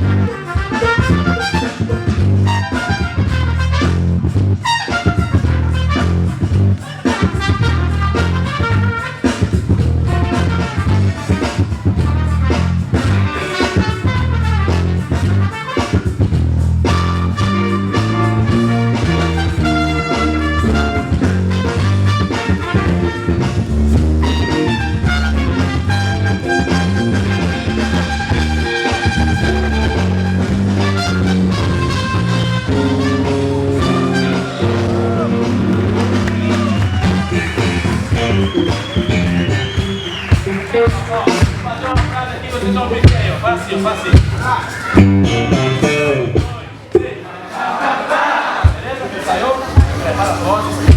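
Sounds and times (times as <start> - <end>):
funk band instrumental groove: 0.0 - 47.1, 49.8 - 50.9.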